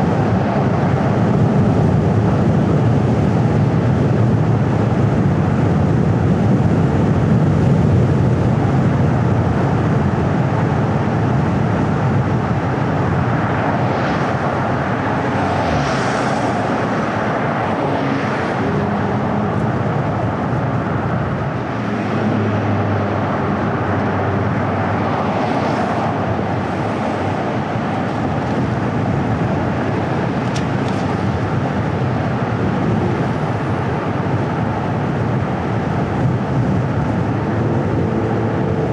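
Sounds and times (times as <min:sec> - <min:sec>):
car tyre and engine noise: 0:00.0 - 0:38.9.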